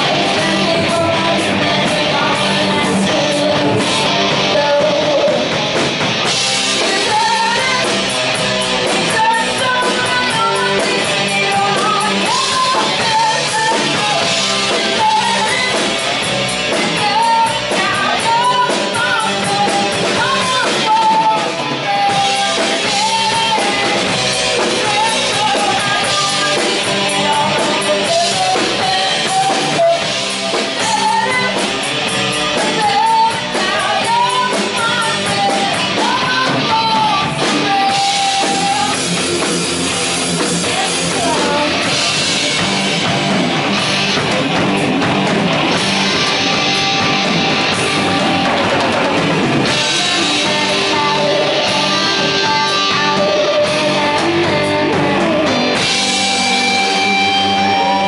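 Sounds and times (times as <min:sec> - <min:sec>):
woman singing: 0:00.0 - 0:05.6, 0:06.6 - 0:39.4, 0:40.3 - 0:43.0, 0:47.9 - 0:58.0
drum kit: 0:00.0 - 0:58.0
electric guitars: 0:00.0 - 0:58.0.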